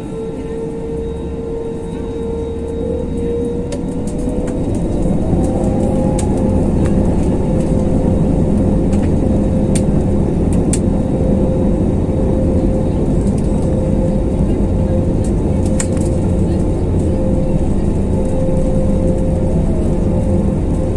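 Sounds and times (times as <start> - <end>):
aircraft cabin engine drone: 0.0 - 20.9.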